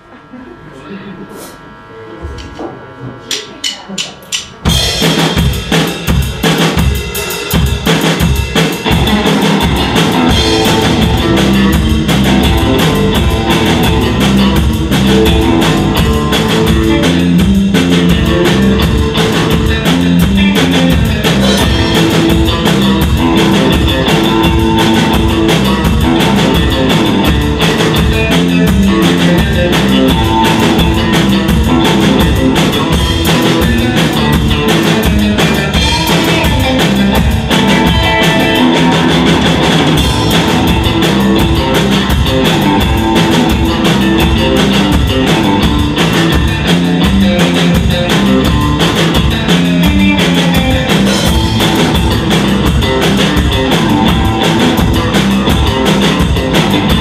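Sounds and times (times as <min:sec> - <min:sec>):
bass drum and snare beat: 0:03.3 - 0:57.0
surf rock band playing: 0:04.6 - 0:57.0.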